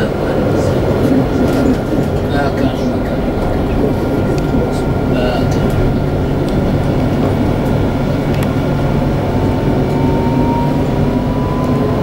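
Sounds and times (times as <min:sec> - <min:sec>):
tram rumbling on track: 0:00.0 - 0:12.0.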